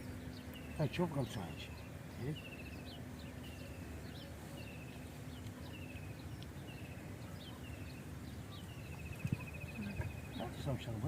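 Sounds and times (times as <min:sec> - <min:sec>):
bird chirps: 0:00.0 - 0:10.8.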